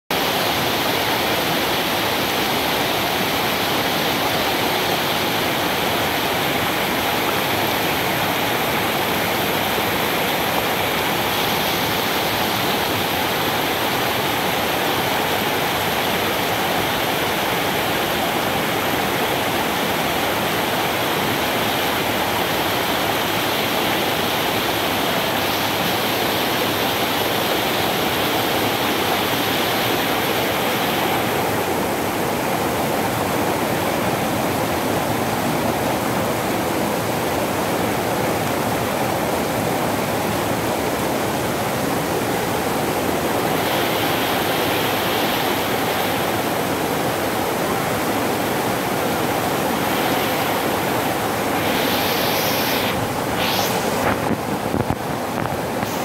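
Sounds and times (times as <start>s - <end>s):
waterfall rushing over boulders: 0.1s - 56.0s.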